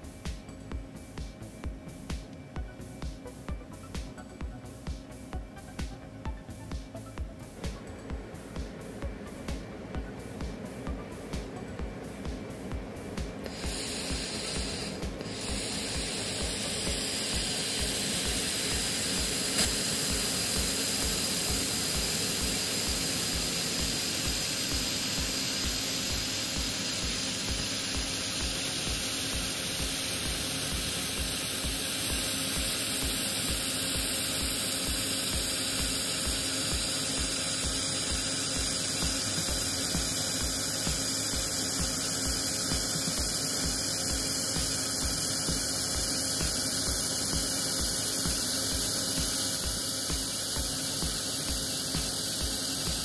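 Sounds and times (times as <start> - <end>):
laser welder hissing: 0.0 - 53.0.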